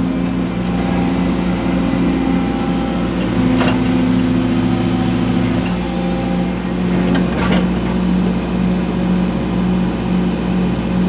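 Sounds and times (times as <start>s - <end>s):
excavator diesel engine drone: 0.0s - 11.0s.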